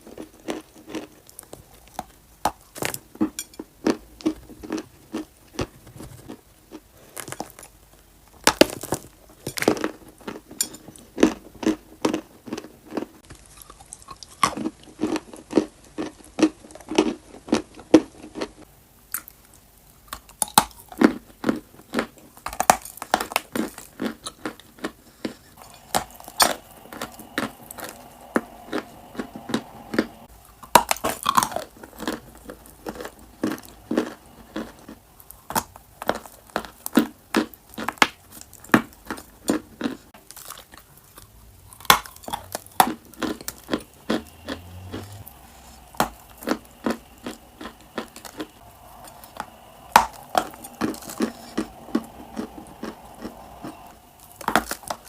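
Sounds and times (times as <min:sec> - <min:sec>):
chewing dry clay crunches: 0:00.0 - 0:55.0.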